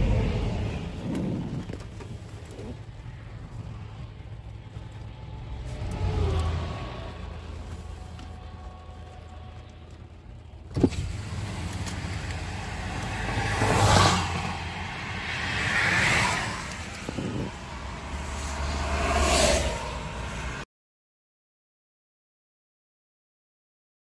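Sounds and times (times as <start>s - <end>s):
car road and tyre noise: 0.0s - 20.7s.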